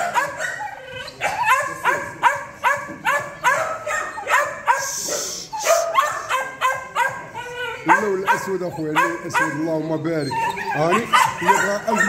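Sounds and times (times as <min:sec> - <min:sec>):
puppy yapping: 0:00.0 - 0:12.0.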